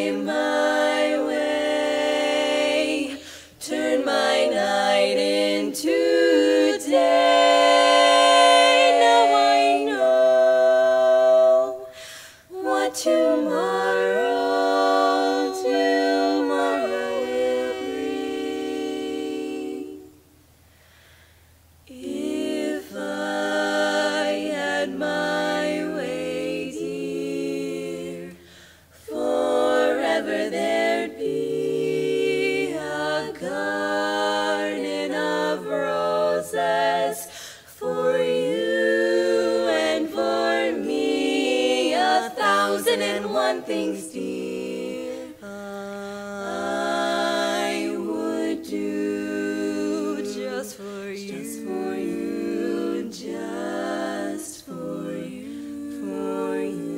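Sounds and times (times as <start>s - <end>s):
women singing a cappella harmony: 0.0s - 21.2s, 21.8s - 56.9s.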